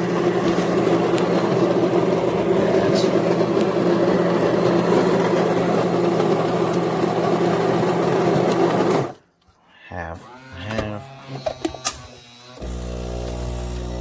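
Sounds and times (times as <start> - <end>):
coffee grinder grinding beans: 0.0 - 9.2, 10.7 - 14.0.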